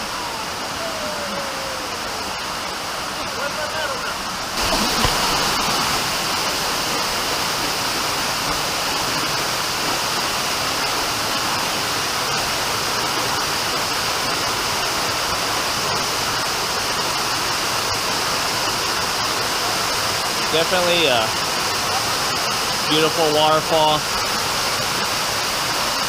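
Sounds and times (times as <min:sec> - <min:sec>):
waterfall rushing over rocks: 0:00.0 - 0:26.0.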